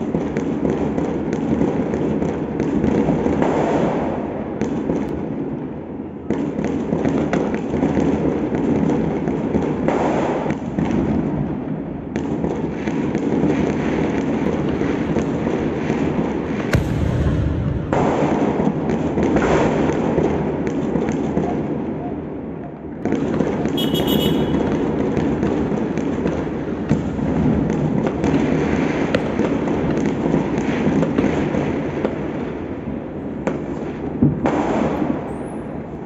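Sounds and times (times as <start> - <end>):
sharp firework pops: 0.0 - 5.2, 6.3 - 11.4, 12.1 - 21.8, 23.0 - 36.0
distant fireworks and firecrackers: 0.0 - 36.0.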